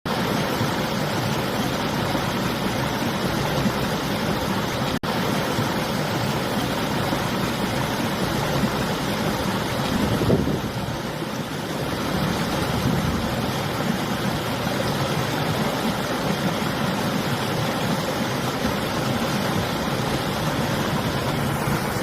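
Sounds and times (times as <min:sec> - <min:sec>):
river water flowing: 0:00.1 - 0:22.0
wind: 0:00.1 - 0:22.0.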